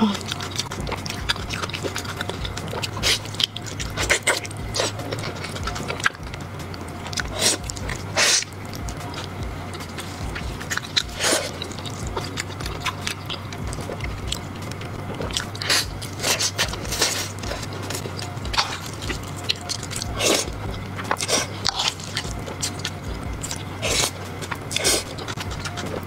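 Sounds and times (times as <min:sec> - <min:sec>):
biting and chewing: 0:00.0 - 0:26.0.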